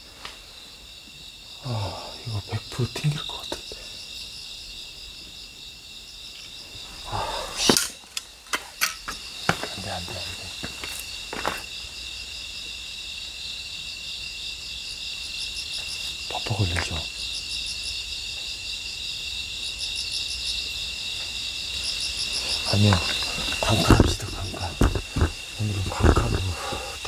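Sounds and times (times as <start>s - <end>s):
crickets chirping: 0.0s - 27.0s
pulsing insect trill: 0.0s - 27.0s.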